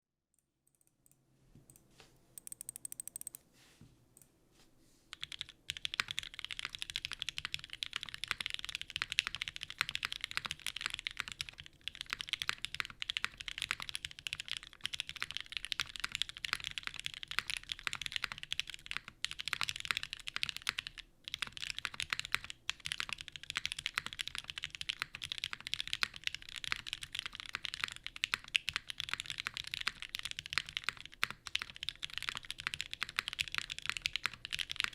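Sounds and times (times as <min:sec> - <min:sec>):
typing on mechanical keyboard: 0:02.4 - 0:03.4, 0:05.1 - 0:34.9.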